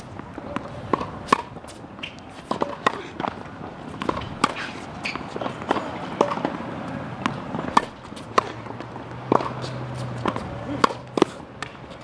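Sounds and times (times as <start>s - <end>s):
footsteps on court: 0.0s - 12.0s
tennis ball hit and bouncing: 0.0s - 12.0s.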